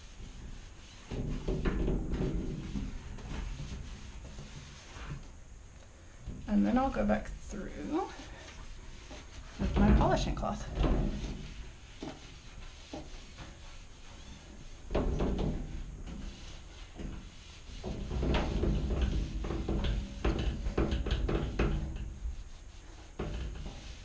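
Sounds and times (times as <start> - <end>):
cloth wiping glass: 0.0 - 5.5, 6.2 - 24.0.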